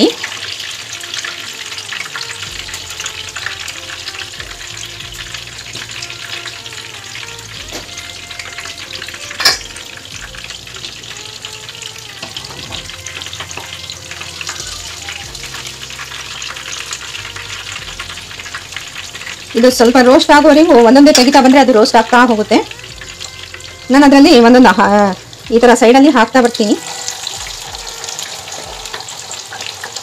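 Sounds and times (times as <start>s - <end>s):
fish sizzling in hot oil: 0.0s - 30.0s.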